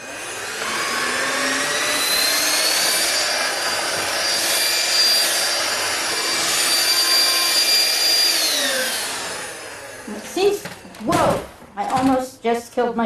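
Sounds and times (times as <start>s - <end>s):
stick vacuum motor whine: 0.0s - 11.5s.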